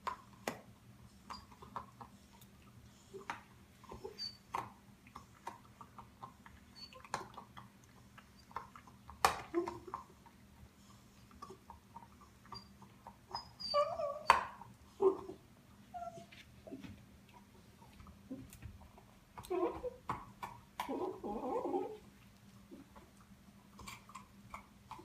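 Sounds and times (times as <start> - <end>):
puppy chewing and gnawing: 0.0 - 25.0.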